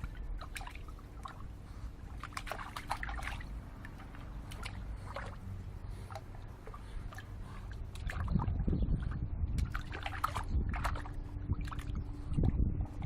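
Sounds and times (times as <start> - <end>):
dog splashing water in bird bath: 0.0 - 13.0.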